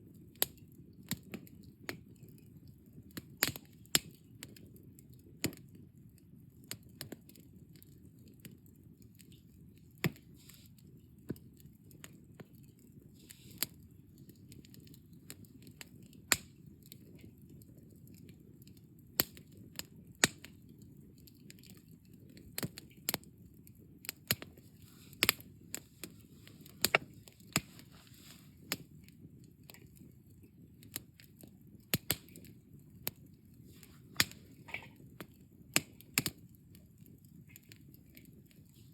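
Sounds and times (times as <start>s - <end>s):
campfire crackling and popping: 0.1s - 38.9s.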